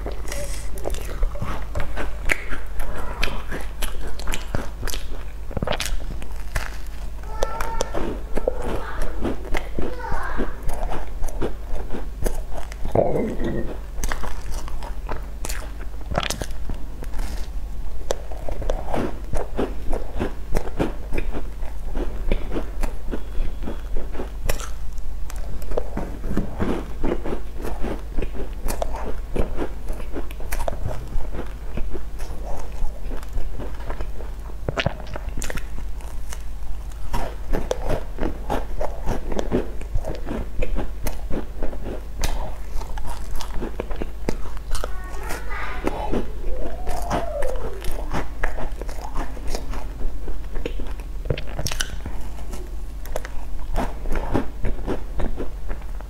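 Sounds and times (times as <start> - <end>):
crunchy chewing: 0.0 - 56.0
low steady hum: 0.0 - 56.0.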